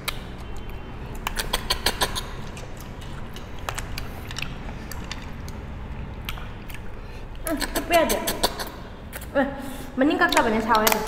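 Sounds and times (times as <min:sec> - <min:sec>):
sucking clicks eating snails: 0:00.0 - 0:09.3.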